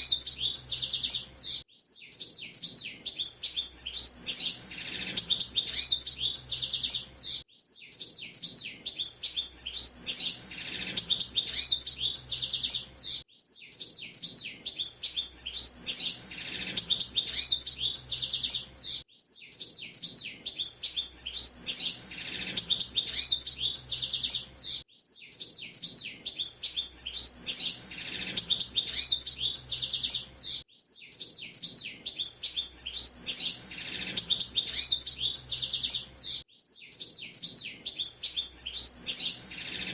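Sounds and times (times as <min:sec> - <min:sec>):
high-pitched bird twittering: 0:00.0 - 0:39.9.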